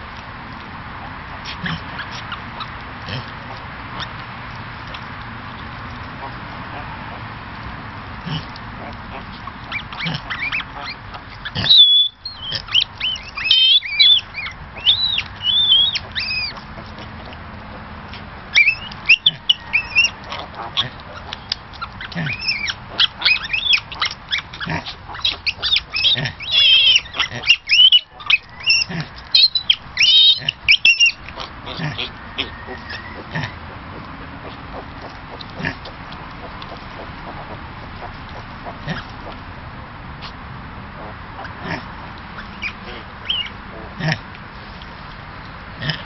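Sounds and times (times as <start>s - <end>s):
piglets squealing: 1.3s - 4.2s, 8.2s - 39.4s, 40.9s - 44.2s.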